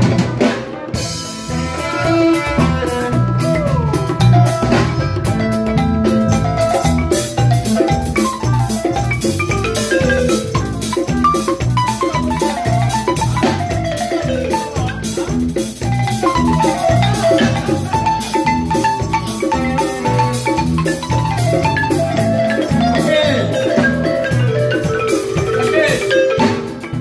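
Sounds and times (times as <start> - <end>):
bass line: 0.0 - 27.0
drums: 0.0 - 27.0
balafon mallet runs: 3.1 - 27.0.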